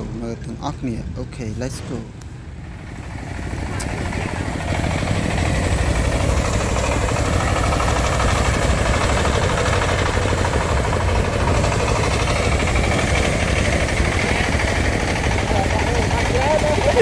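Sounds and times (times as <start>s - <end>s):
engine running with knocking: 2.4s - 17.0s.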